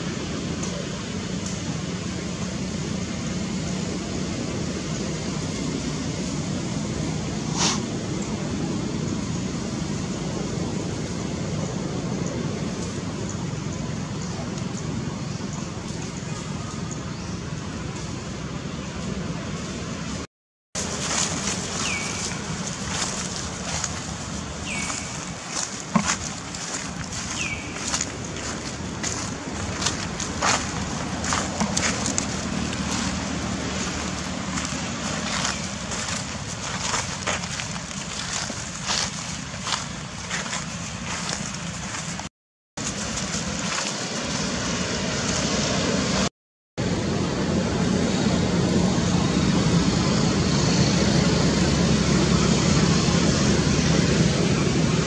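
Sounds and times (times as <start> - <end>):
outdoor hiss and rumble: 0.0 - 55.0.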